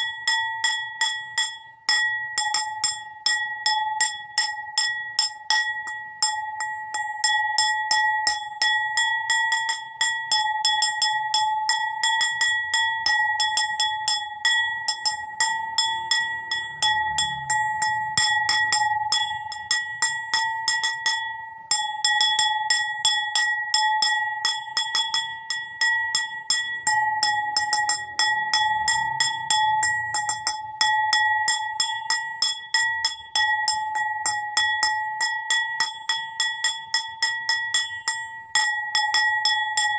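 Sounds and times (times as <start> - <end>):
bowl struck with bell-like ring: 0.0 - 39.9.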